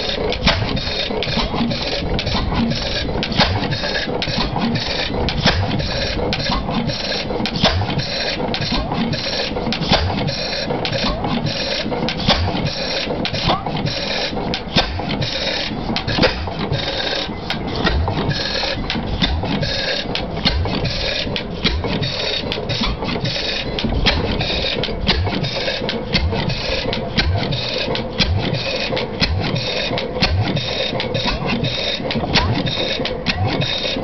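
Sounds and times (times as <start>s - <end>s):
engine clicking clatter: 0.0s - 34.0s
low engine thumps: 0.0s - 34.0s.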